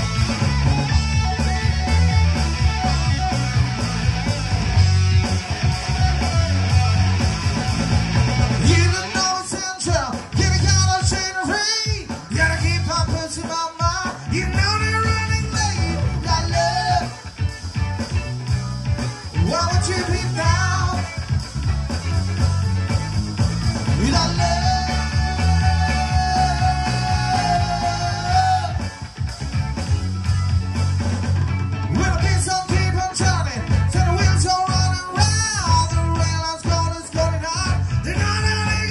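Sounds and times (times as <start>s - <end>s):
live rock-pop band playing: 0.0s - 38.9s.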